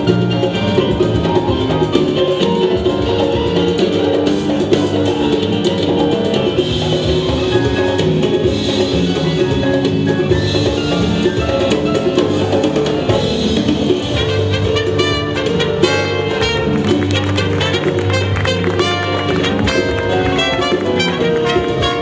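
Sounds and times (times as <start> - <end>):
drum kit and percussion: 0.0 - 22.0.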